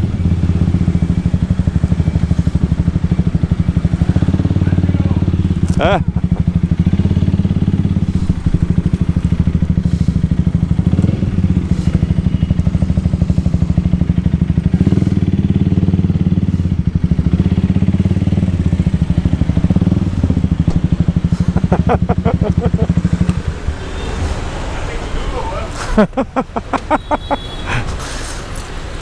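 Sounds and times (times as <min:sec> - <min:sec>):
motorcycle engine running: 0:00.0 - 0:25.1.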